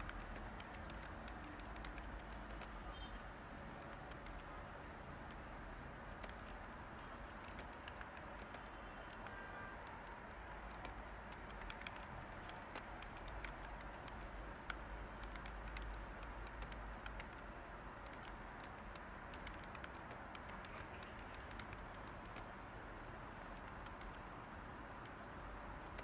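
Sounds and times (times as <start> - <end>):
typing on computer keyboard: 0.0 - 3.0, 3.6 - 22.6, 23.4 - 24.4, 25.0 - 26.0
white-noise hiss: 0.0 - 26.0.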